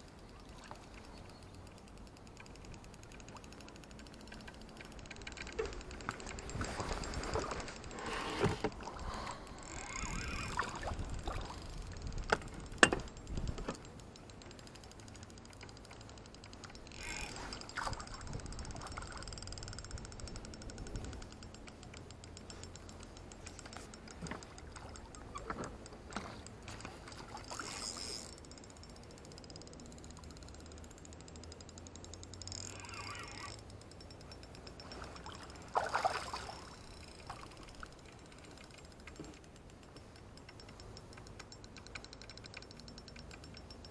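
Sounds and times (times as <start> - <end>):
fishing reel winding: 0.0 - 43.9.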